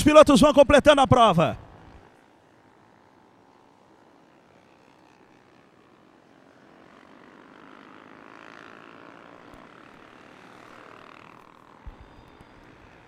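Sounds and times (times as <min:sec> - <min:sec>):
motorcycle engines passing: 0:01.1 - 0:13.0.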